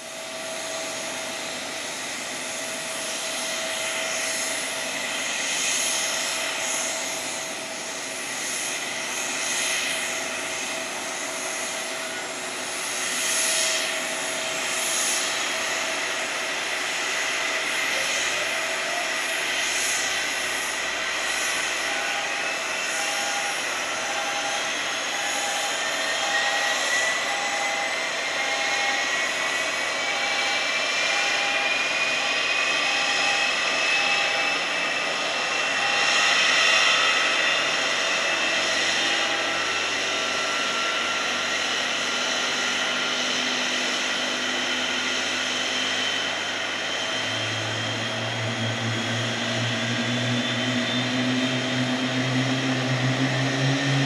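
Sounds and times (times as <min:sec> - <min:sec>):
airport jet din: 0:00.0 - 0:54.0
jet engine starting up: 0:00.0 - 0:54.0
rising metallic whine: 0:00.0 - 0:54.0.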